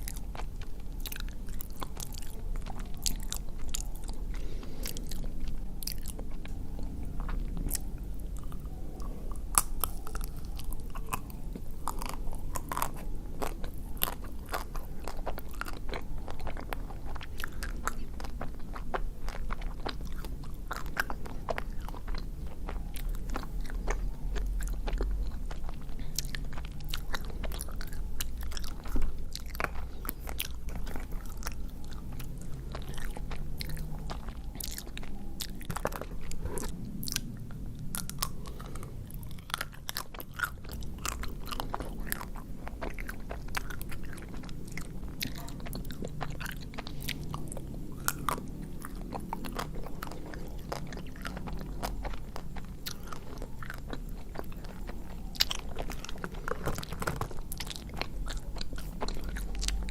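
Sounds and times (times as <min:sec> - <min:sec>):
crunching and chewing: 0:00.0 - 0:59.9
wet mouth sounds: 0:00.0 - 0:59.9.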